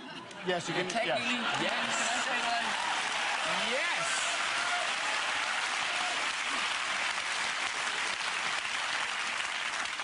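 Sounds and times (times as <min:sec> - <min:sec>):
audience applauding: 0:00.9 - 0:10.0.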